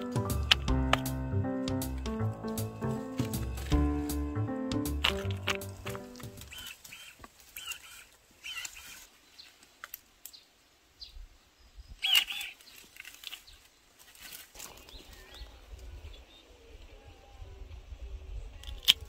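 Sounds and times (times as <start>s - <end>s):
birds chirping: 0.0s - 16.6s.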